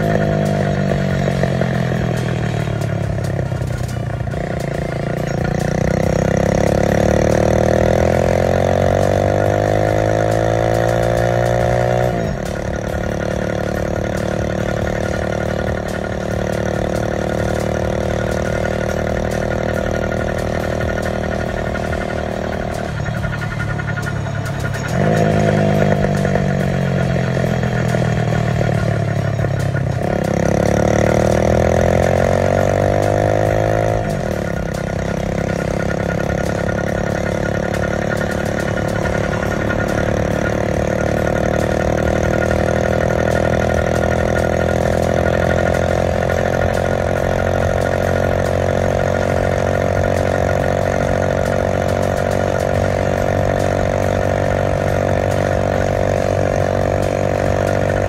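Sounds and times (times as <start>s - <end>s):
vehicle engine accelerating: 0.0s - 58.0s.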